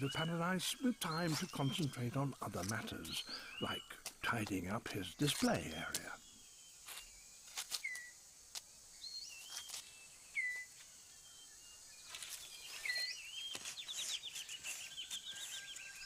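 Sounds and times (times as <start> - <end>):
birds whistling calls: 0.0 - 8.2, 8.9 - 16.0
insect hum: 0.0 - 16.0.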